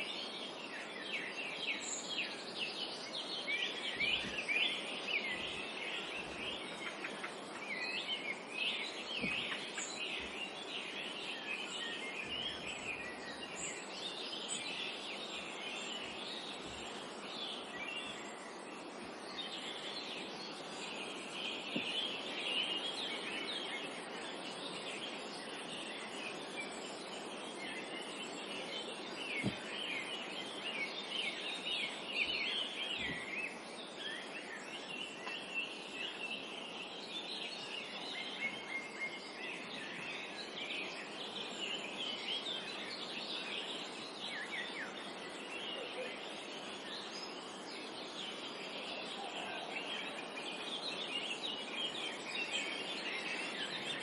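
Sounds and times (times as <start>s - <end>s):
forest ambience hiss: 0.0s - 54.0s
small birds chirping: 0.0s - 54.0s.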